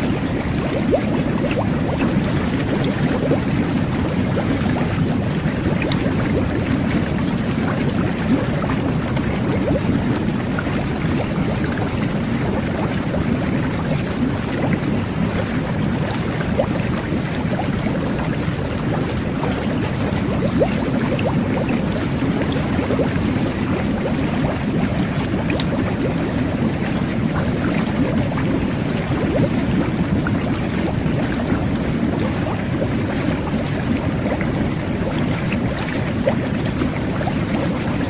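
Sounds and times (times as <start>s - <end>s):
whirlpool bath jets bubbling: 0.0s - 38.0s.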